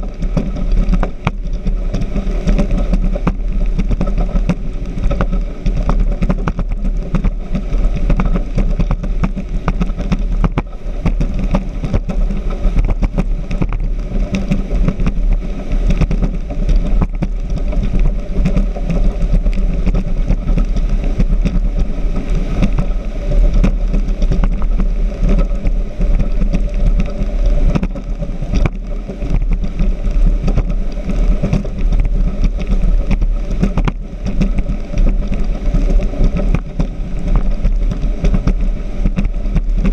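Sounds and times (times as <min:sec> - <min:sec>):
rushing wind and water: 0:00.0 - 0:39.9
speedboat engine rumble: 0:00.0 - 0:39.9.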